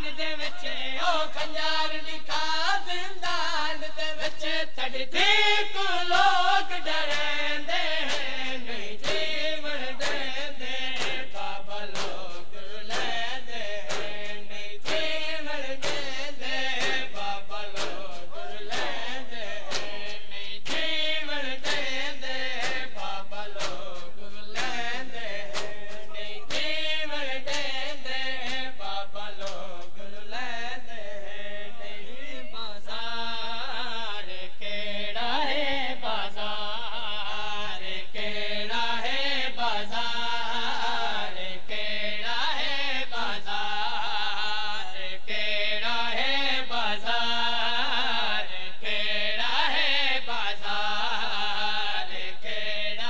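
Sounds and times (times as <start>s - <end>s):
rhythmic chest-beating slaps: 0.0s - 31.6s, 34.6s - 53.0s
men chanting in a group: 0.0s - 53.0s.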